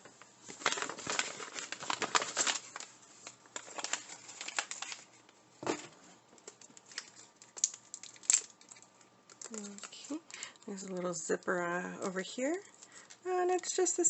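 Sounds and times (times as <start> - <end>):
plastic packaging crinkling: 0.4 - 13.9.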